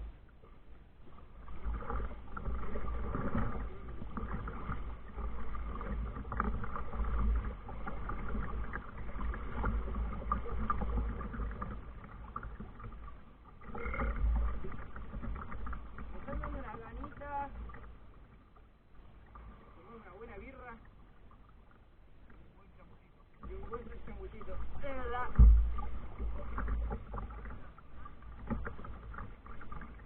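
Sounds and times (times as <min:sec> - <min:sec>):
water sloshing around kayak hull: 0:00.0 - 0:30.0.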